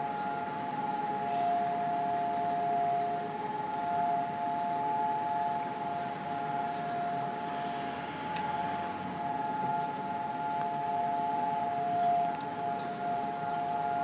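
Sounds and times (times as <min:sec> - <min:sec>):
siren long steady tone: 0:00.0 - 0:14.0.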